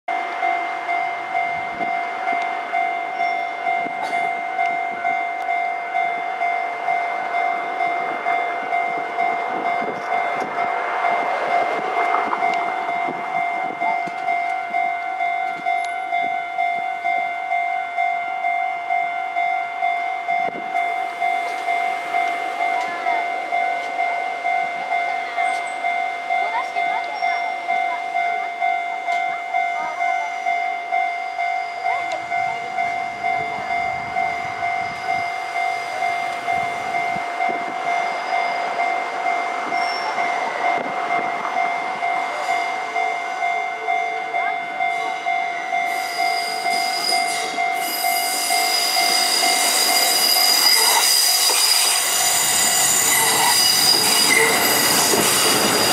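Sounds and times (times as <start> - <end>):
diesel railcar running: 0.1 - 55.9
level-crossing alarm dinging: 0.1 - 55.9.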